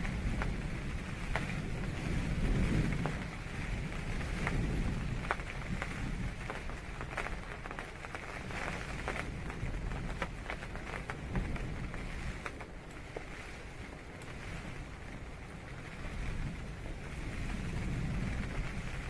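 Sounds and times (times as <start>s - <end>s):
rain on a tent: 0.0s - 19.0s.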